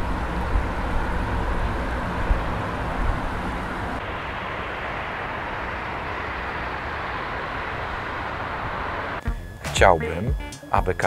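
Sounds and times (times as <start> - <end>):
outdoor rumble: 0.0 - 9.2
high hiss: 0.0 - 9.8.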